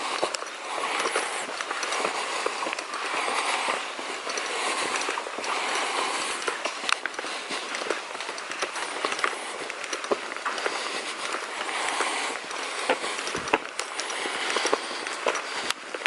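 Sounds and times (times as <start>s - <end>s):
footsteps crunching on trail: 0.0s - 16.0s
sharp clicks: 0.1s - 16.0s.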